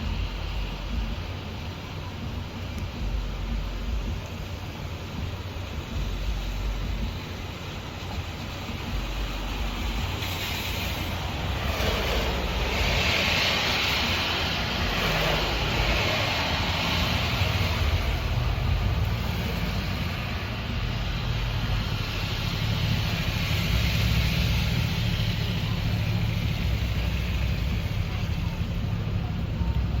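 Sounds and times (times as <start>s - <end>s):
rushing road noise: 0.0s - 30.0s.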